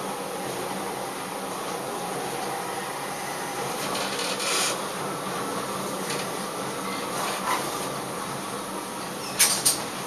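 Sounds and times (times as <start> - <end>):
railcar running on track: 0.0 - 10.0.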